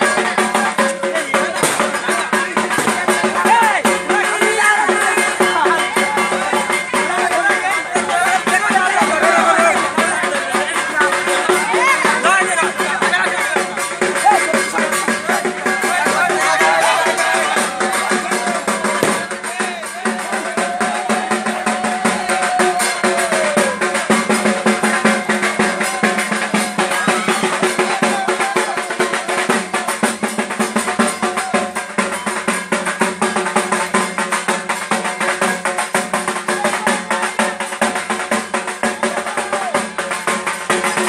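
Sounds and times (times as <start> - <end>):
rapid continuous drumming: 0.0 - 41.0.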